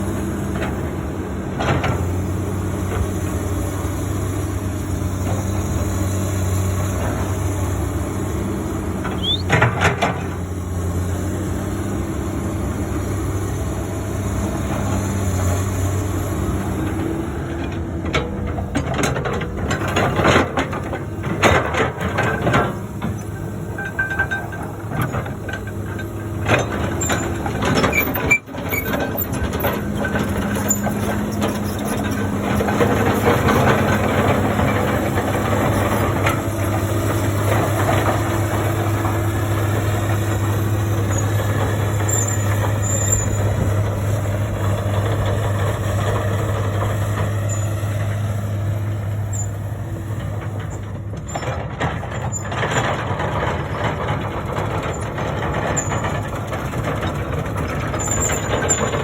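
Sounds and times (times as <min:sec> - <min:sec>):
excavator diesel engine drone: 0:00.0 - 0:59.0.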